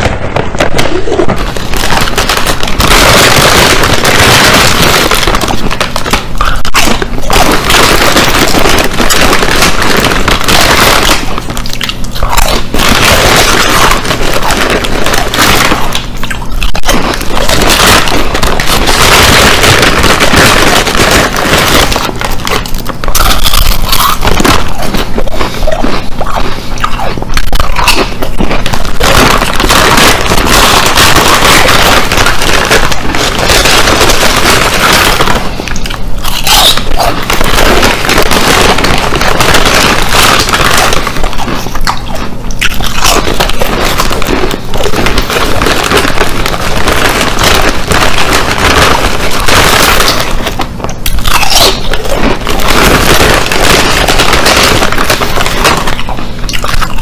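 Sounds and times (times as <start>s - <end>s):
crunching potato chips: 0.0s - 57.0s.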